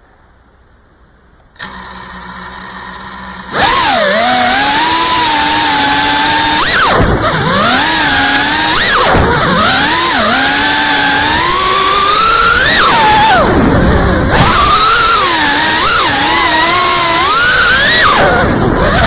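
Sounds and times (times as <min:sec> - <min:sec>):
drone propellers whining: 0:01.6 - 0:19.0.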